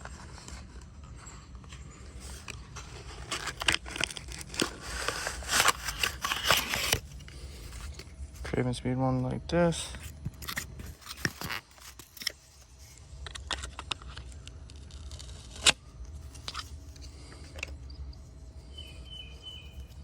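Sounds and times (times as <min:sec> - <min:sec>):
packaging rustling and scraping: 0:00.0 - 0:08.6, 0:09.8 - 0:20.0.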